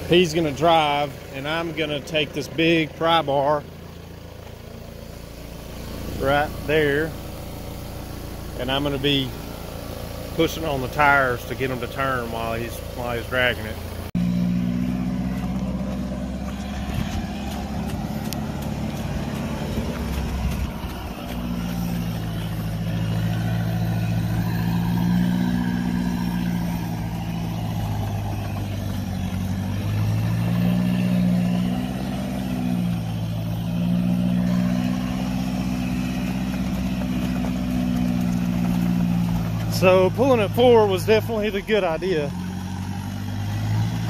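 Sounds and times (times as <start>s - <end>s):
diesel engine droning under load: 0.0s - 44.0s.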